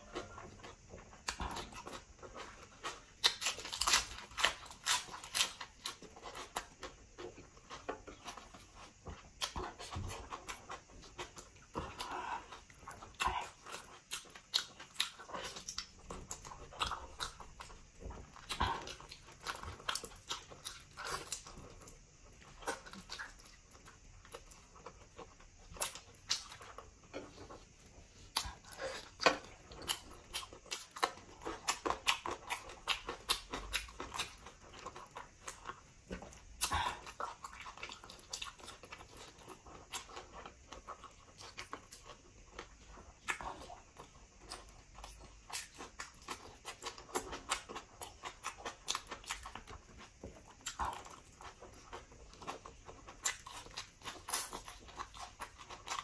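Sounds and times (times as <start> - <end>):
chewing and lip-smacking: 0.1 - 56.0.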